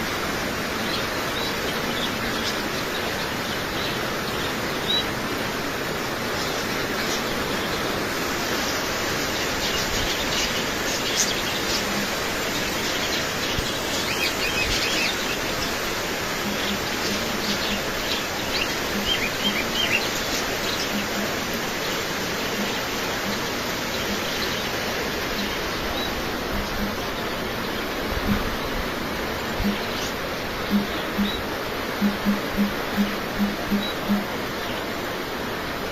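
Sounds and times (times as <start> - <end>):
rain hissing: 0.0 - 35.9
small birds chirping: 0.6 - 34.9.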